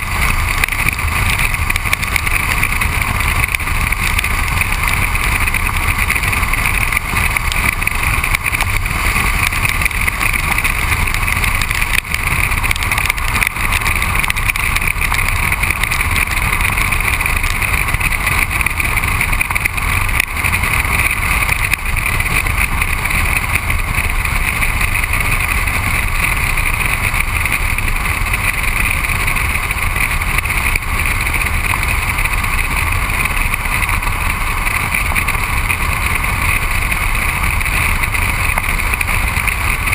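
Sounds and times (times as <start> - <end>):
tyre rumbling on wet asphalt: 0.0 - 39.9.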